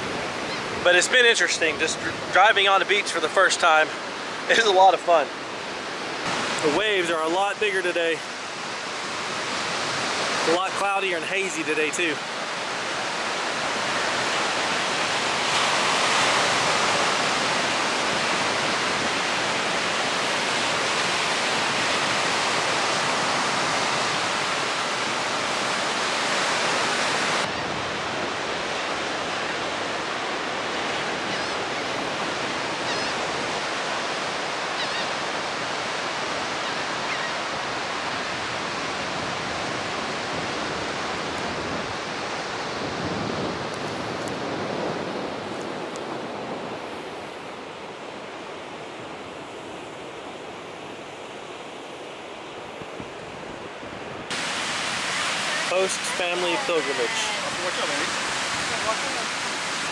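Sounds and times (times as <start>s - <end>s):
ocean surf breaking: 0.0s - 59.9s.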